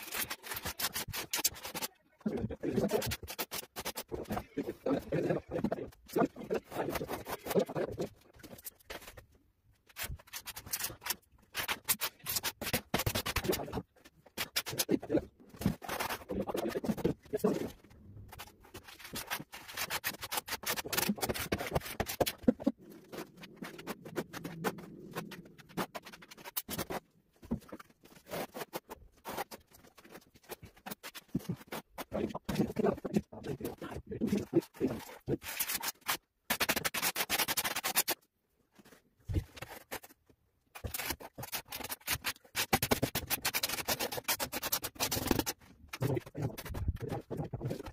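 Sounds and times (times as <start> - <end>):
trowel scraping adhesive: 0.0 - 2.0, 2.6 - 9.2, 9.9 - 17.7, 18.3 - 38.2, 40.8 - 47.9.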